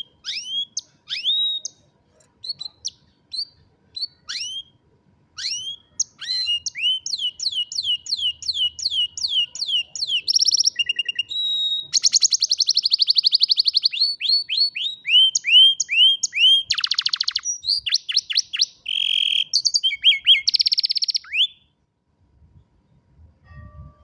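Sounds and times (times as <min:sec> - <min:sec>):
canary singing trills: 0:00.0 - 0:04.8, 0:05.4 - 0:21.8.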